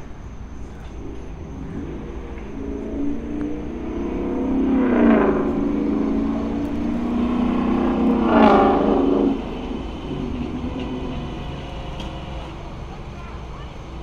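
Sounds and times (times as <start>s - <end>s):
car engine passing: 0.0s - 14.0s.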